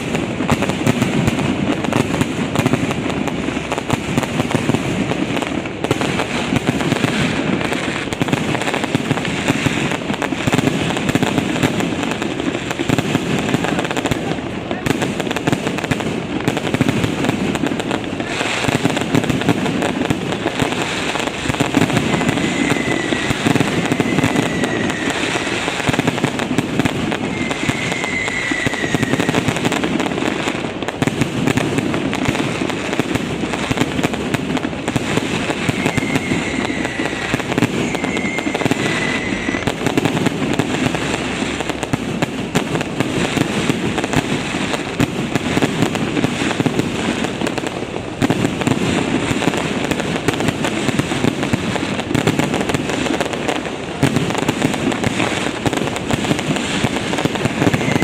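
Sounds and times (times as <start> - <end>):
firework whistles: 0.0 - 58.0
fireworks bangs and crackles: 0.0 - 58.0.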